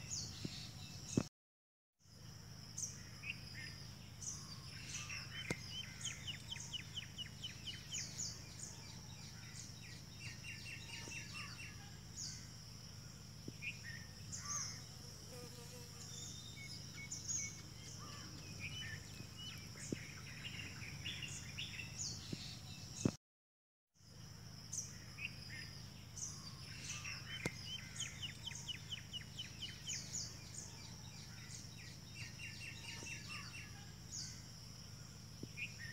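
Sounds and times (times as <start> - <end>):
small birds chirping: 0.0 - 1.3, 2.7 - 23.2, 24.7 - 34.6.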